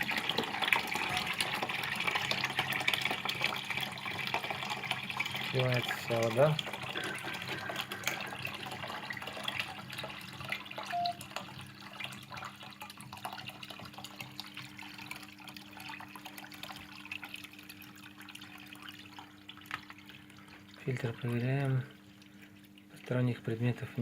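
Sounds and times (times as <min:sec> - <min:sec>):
water trickling and dripping: 0:00.0 - 0:24.0.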